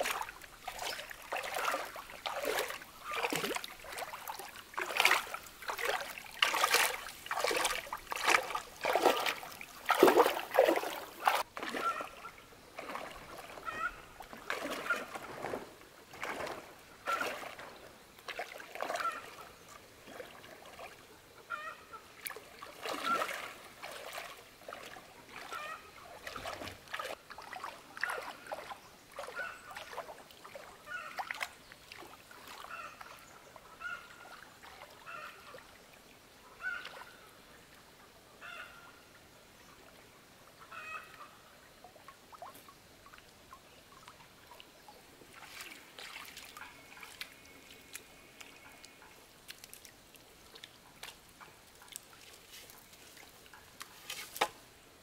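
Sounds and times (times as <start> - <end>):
water splashing and sloshing: 0.0 - 38.1, 39.3 - 55.0.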